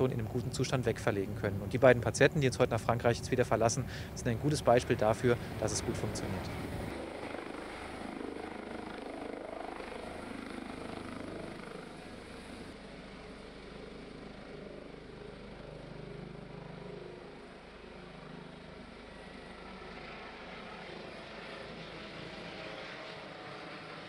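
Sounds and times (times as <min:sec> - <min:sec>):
helicopter rotor drone: 0:00.0 - 0:24.0.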